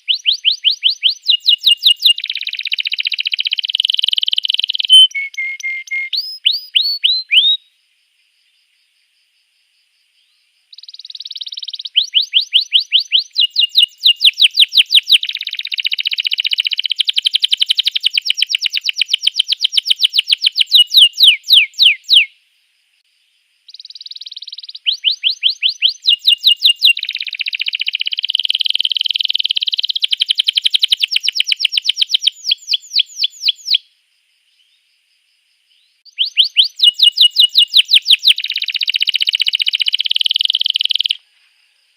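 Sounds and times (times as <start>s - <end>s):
canary singing trills: 0.0s - 7.7s, 10.2s - 22.3s, 23.7s - 33.9s, 35.8s - 41.2s.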